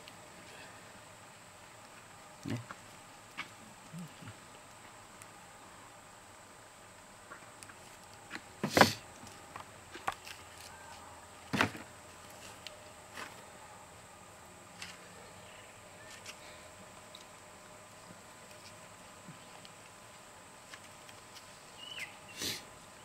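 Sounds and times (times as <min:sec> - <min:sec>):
low steady hiss: 0:00.0 - 0:23.0.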